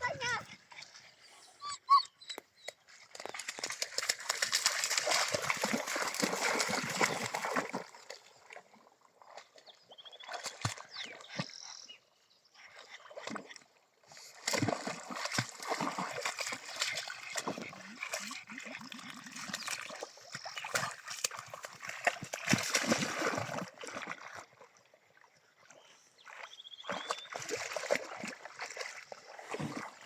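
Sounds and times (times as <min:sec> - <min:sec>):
water splashing and sloshing: 0:00.0 - 0:01.4, 0:02.3 - 0:11.9, 0:12.6 - 0:30.0.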